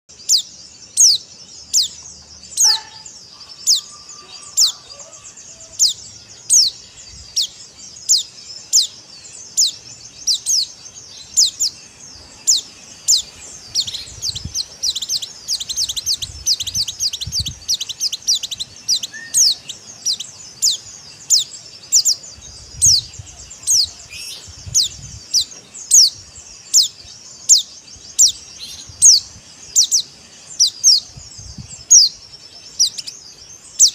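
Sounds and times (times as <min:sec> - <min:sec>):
bird chirping: 0:00.1 - 0:33.9
bird twittering: 0:00.1 - 0:33.9.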